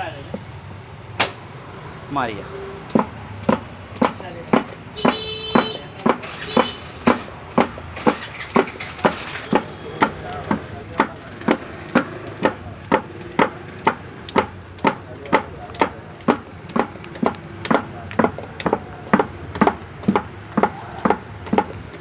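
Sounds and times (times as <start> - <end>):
knife chopping on wooden board: 2.8 - 22.0.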